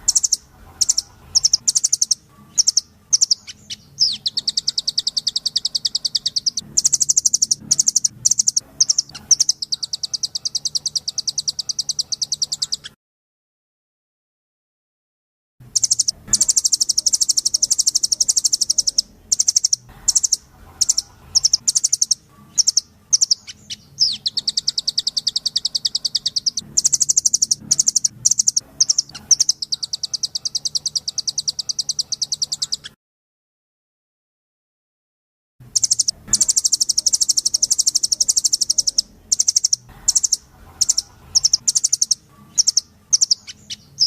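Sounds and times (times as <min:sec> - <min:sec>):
songbird high chirps: 0:00.0 - 0:13.0, 0:15.7 - 0:33.0, 0:35.7 - 0:44.0.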